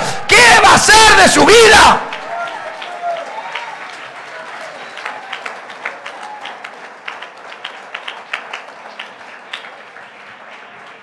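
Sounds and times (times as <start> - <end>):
congregation applauding: 0.4 - 11.0.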